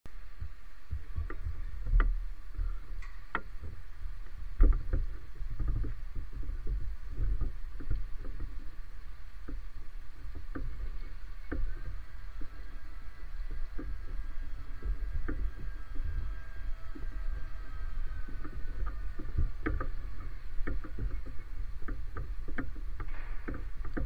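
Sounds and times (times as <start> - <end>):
faint steady hum: 0.1 - 24.0.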